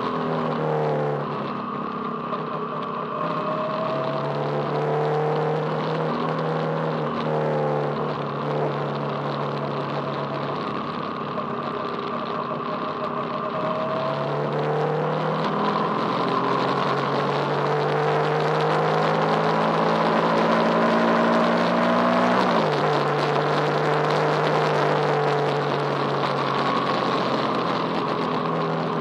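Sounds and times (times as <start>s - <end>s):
racing engines at high revs: 0.0s - 29.0s.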